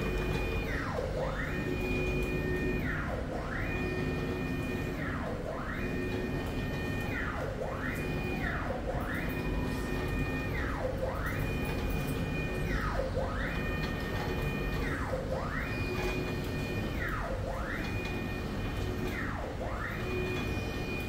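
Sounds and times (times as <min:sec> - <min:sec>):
printer carriage motor whine: 0:00.0 - 0:21.0.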